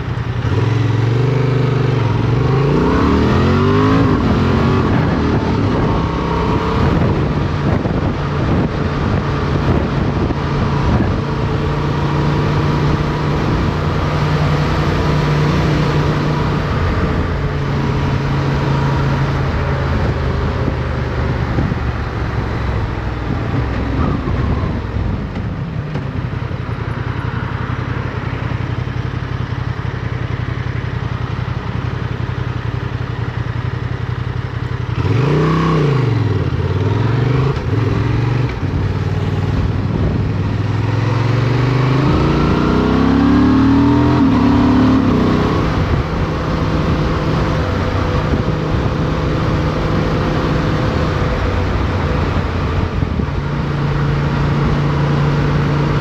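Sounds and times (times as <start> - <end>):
motorcycle engine revving: 0.0 - 56.0
wind noise: 1.5 - 27.1, 35.0 - 56.0.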